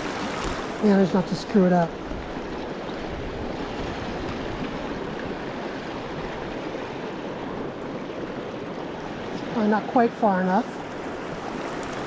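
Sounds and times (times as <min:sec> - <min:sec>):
river flowing over rocks: 0:00.0 - 0:10.1.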